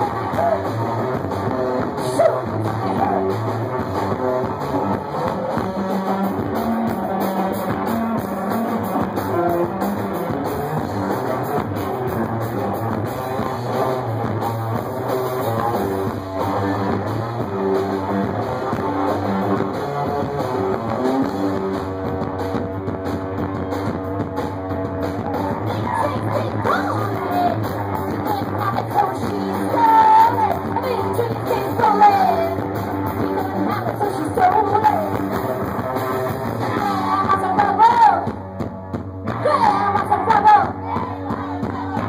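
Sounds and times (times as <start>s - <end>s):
drum kit: 0.0s - 42.0s
electric guitar riffing: 0.0s - 42.0s.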